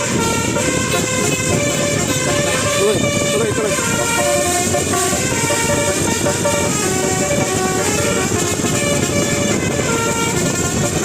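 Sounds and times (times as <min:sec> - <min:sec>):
dense background rumble: 0:00.0 - 0:11.0
multi-trumpet bus horn tune: 0:00.0 - 0:11.0.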